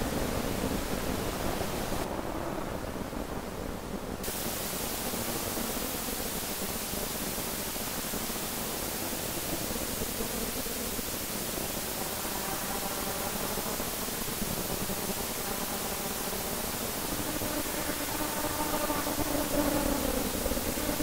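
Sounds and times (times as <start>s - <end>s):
static hiss: 0.0s - 21.0s.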